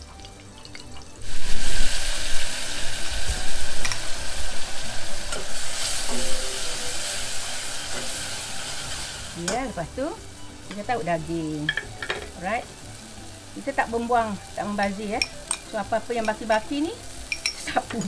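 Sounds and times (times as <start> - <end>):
paste sizzling in hot oil: 0.1 - 18.0.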